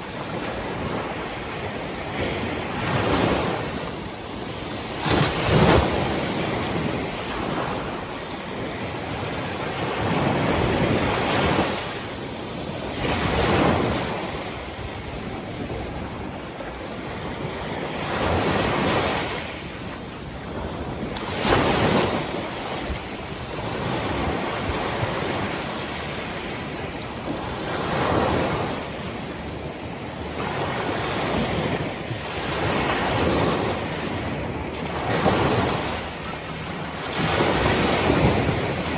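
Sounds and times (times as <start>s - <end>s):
waves crashing on a beach: 0.0s - 38.9s.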